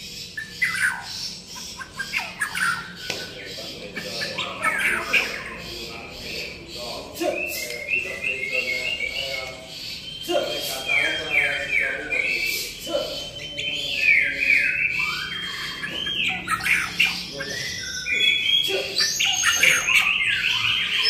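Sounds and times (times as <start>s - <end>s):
bird singing whistles and chatter: 0.0s - 21.0s.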